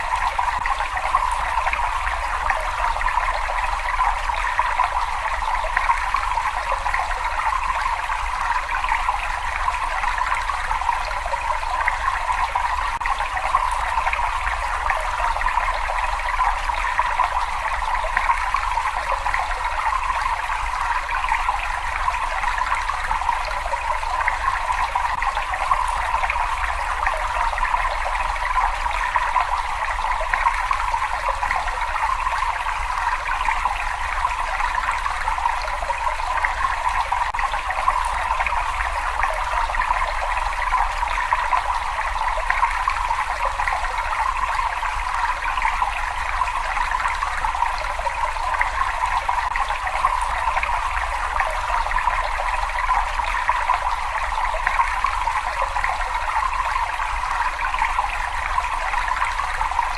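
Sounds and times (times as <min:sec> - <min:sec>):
water running and trickling: 0:00.0 - 0:59.9.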